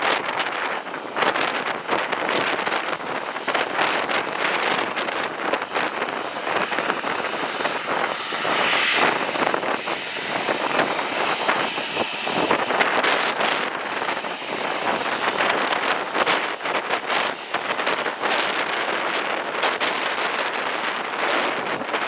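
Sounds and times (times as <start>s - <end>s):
jet engines at low power: 0.0s - 22.0s.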